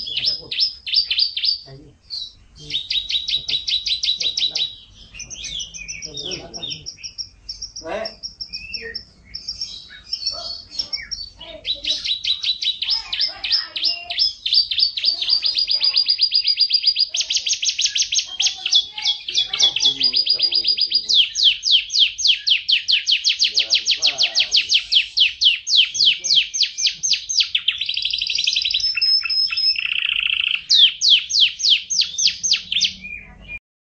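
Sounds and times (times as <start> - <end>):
canary singing trills: 0.0 - 33.6.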